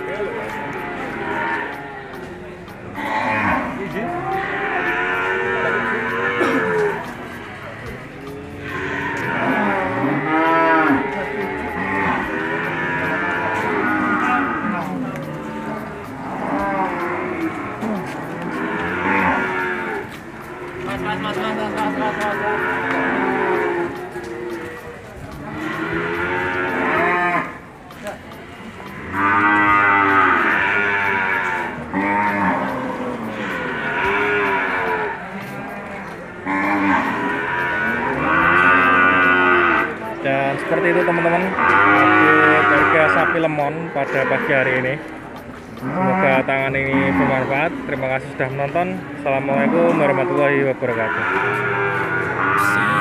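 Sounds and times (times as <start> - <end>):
cattle mooing: 3.0 - 24.9, 25.5 - 27.6, 28.8 - 35.2, 36.4 - 45.1, 45.8 - 48.3, 49.4 - 53.0.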